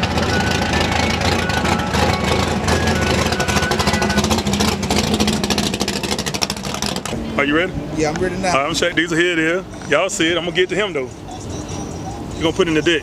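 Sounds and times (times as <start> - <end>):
car engine idling: 0.0 - 13.0
outdoor background noise: 0.0 - 13.0.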